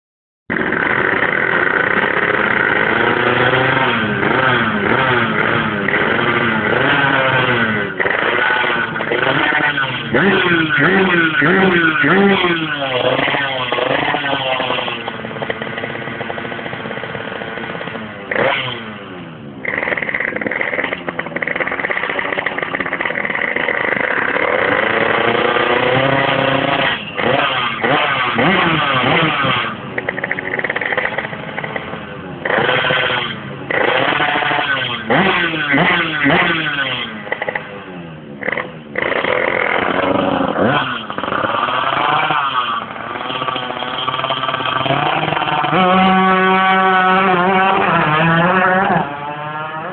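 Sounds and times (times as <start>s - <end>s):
two-stroke engine revving: 0.5s - 49.9s.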